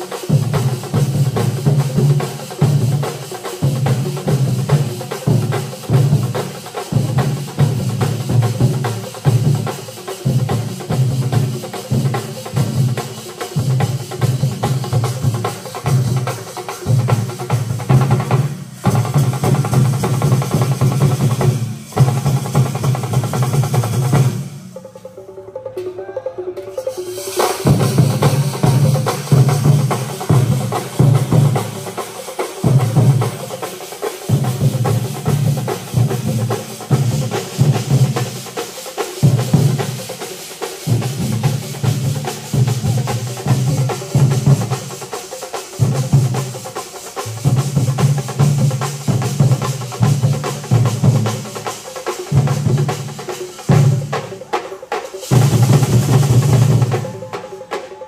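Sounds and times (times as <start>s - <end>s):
clashing metal cymbals: 0.0s - 58.0s
massed drums beaten with sticks: 0.0s - 58.0s.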